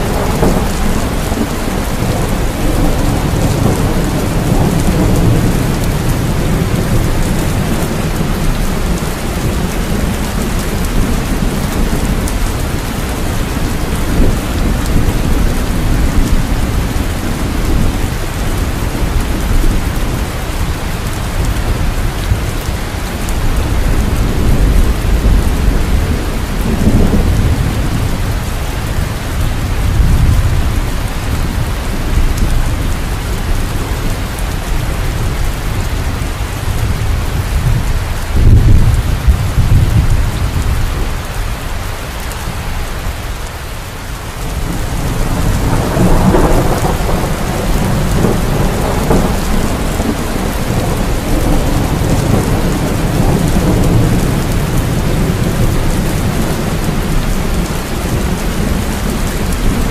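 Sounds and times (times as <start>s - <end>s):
rolling thunder rumbles: 0.0s - 59.9s
steady rain falling: 0.0s - 59.9s.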